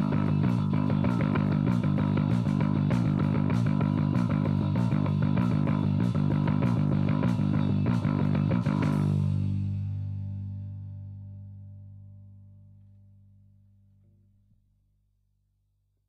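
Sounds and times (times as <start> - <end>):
electric bass guitar rock: 0.0 - 14.3.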